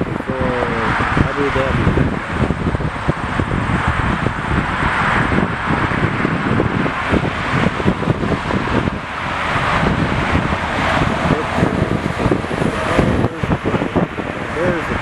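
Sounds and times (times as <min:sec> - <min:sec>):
steady rushing noise: 0:00.0 - 0:15.0
wind buffeting microphone: 0:00.0 - 0:15.0.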